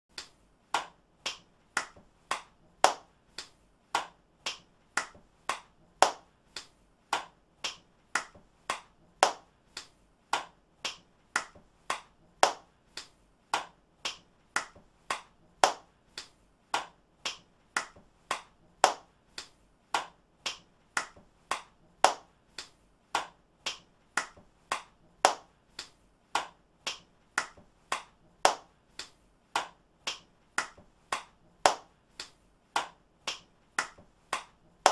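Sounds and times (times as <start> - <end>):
hands clapping: 0.1 - 34.9.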